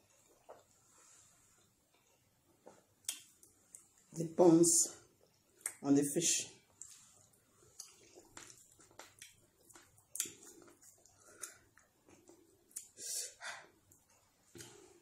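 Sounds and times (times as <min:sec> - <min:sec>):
soft chewing with lip smacks: 0:00.0 - 0:04.2, 0:05.0 - 0:05.8, 0:06.6 - 0:15.0.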